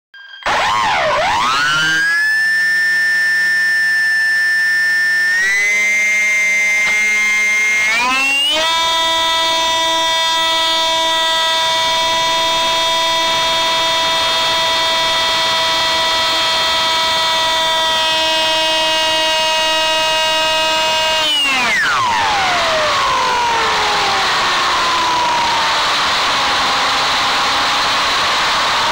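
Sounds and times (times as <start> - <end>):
electric motor propeller whining: 0.5 - 28.9.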